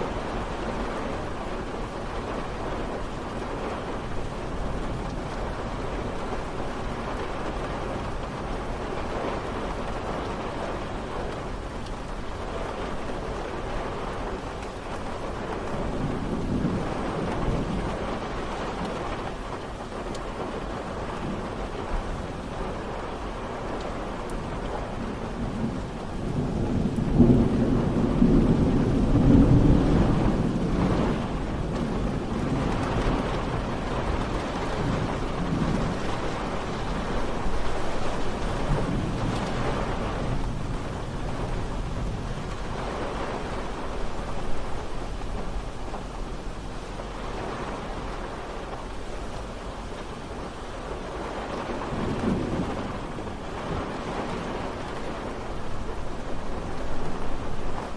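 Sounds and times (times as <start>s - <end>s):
steady rain: 0.0s - 57.9s
thunder rumble: 0.0s - 57.9s.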